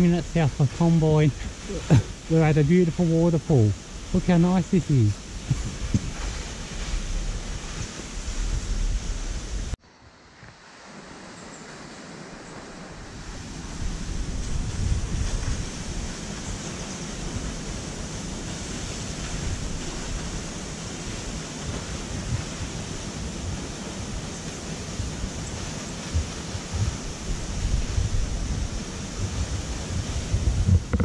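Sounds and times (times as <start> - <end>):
waterfall rushing onto rocks: 0.0 - 9.8, 12.7 - 31.0
wind buffeting microphone: 0.0 - 9.8, 13.2 - 31.0.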